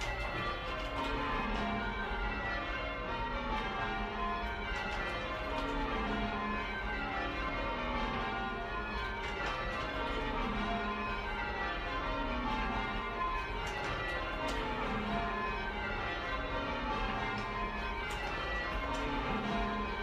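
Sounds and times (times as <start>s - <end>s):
church bells change ringing: 0.0s - 20.0s.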